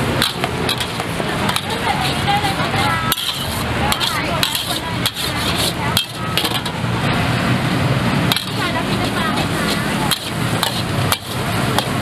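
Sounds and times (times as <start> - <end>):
metal spatula scraping wok: 0.0 - 7.3, 8.0 - 12.0.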